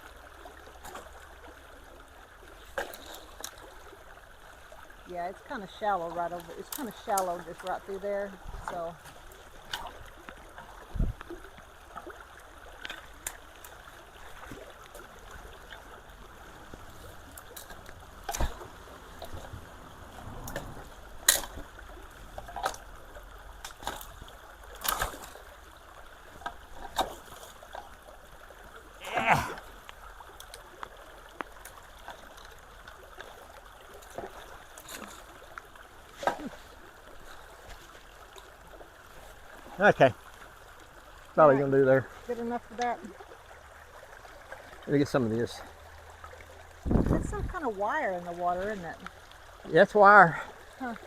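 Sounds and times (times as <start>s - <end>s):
creek water trickling: 0.0s - 51.0s
water splashes: 0.0s - 51.0s.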